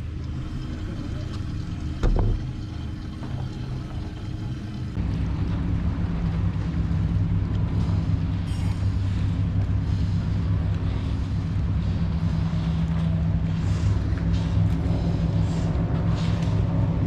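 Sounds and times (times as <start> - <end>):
motorboat engine humming: 0.0 - 17.0
water noise: 0.0 - 17.0.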